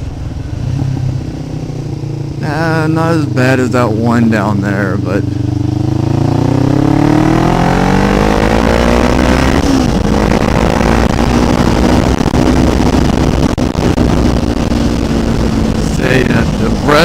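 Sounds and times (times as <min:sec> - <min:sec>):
motorcycle engine pulling uphill: 0:00.0 - 0:17.0
wind and road noise: 0:00.0 - 0:17.0.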